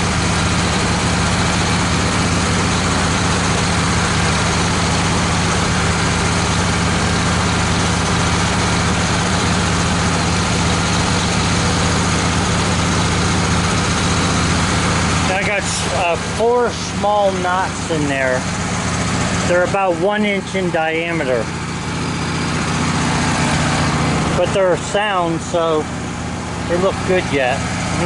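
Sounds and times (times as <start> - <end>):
sawmill engine running: 0.0 - 28.0.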